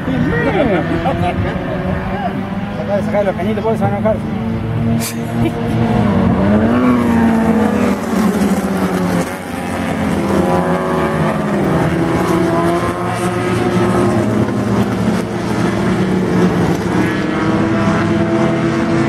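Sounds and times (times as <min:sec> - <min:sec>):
race car engines running hard: 0:00.0 - 0:19.0.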